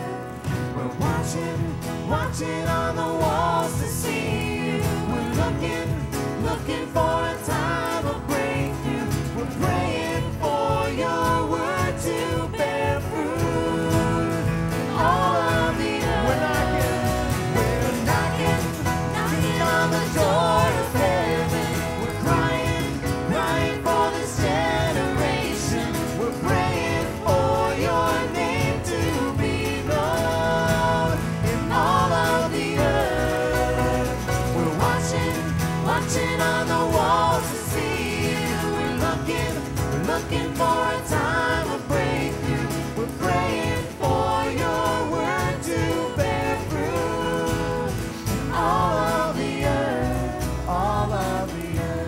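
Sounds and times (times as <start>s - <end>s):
instrumental worship band music: 0.0s - 52.0s.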